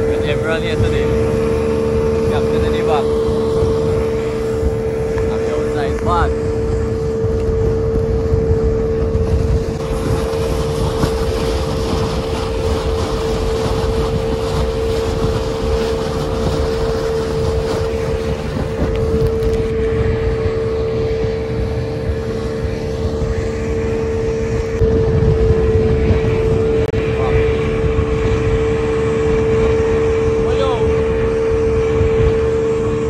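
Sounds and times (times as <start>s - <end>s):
outboard motor running: 0.0s - 33.0s
water rushing along hull: 0.0s - 33.0s
wind on microphone: 0.0s - 33.0s.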